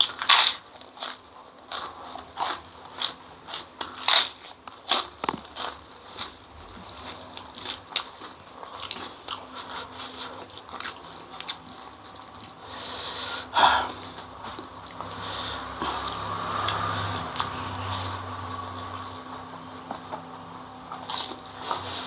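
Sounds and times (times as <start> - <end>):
chewing with wet smacks: 0.0 - 13.0, 13.9 - 22.0.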